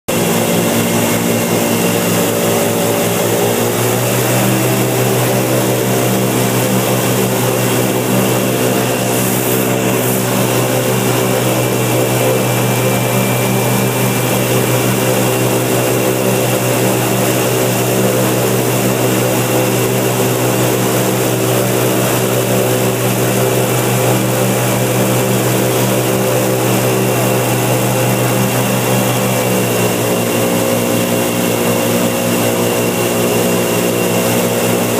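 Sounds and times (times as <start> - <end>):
boat motor running: 0.1 - 34.9.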